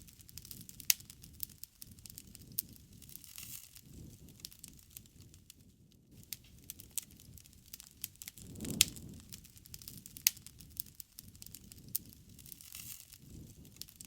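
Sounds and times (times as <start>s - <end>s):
campfire popping and snapping: 0.0s - 14.0s
low rumble of flames: 0.0s - 14.0s.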